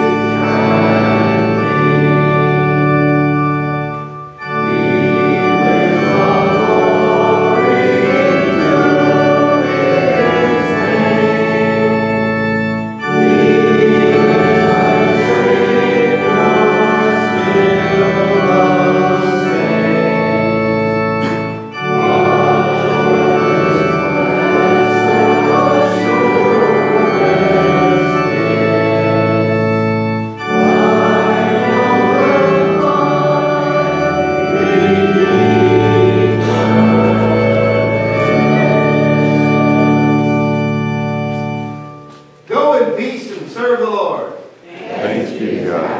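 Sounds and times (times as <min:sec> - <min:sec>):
organ playing sustained chords: 0:00.0 - 0:45.8.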